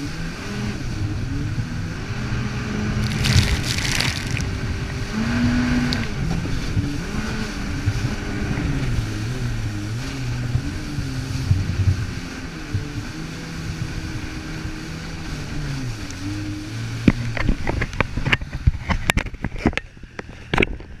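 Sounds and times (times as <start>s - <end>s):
jet ski engine running: 0.0s - 21.0s
water and wind rushing: 0.0s - 21.0s.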